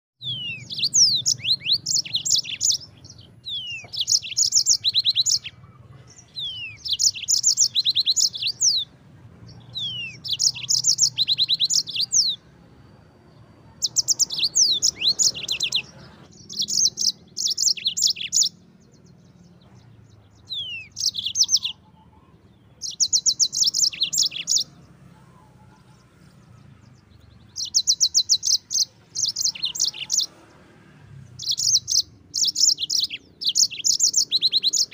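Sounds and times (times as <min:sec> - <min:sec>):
canary singing trills: 0:00.2 - 0:34.9.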